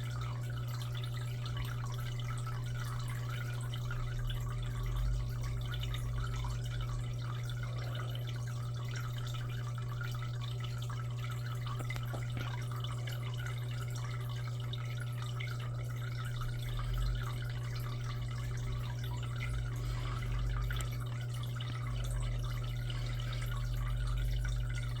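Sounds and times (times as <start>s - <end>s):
steady low hum: 0.0s - 25.0s
water trickling and dripping: 0.0s - 25.0s.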